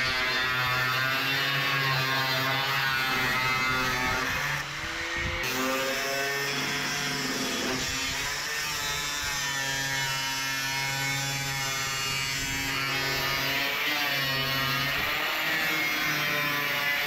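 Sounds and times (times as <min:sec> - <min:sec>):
angle grinder grinding metal: 0:00.0 - 0:17.0.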